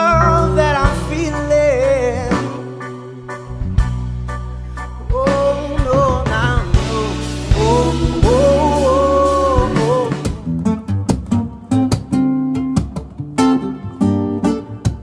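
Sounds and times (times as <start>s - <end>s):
acoustic guitar chords: 0.0s - 15.0s
live band music: 0.0s - 15.0s.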